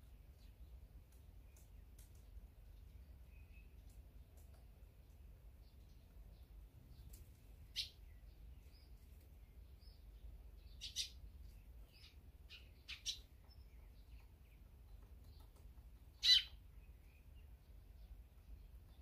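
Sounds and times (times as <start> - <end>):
small songbirds chirping: 0.0 - 19.0.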